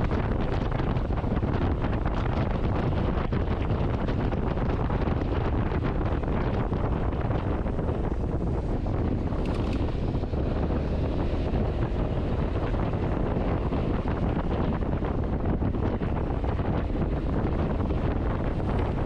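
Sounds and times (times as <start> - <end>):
road and engine rumble: 0.0 - 19.0
wind buffeting microphone: 0.0 - 19.0.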